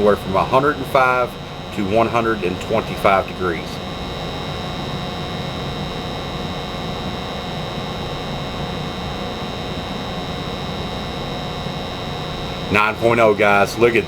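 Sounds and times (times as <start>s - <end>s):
faint high whine: 0.0s - 14.0s
gas furnace running: 0.0s - 14.0s.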